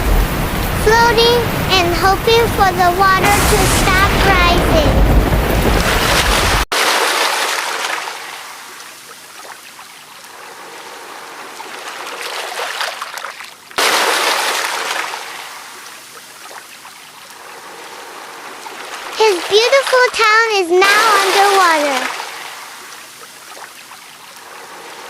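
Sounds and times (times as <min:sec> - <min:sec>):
water flowing and splashing: 0:00.0 - 0:25.0.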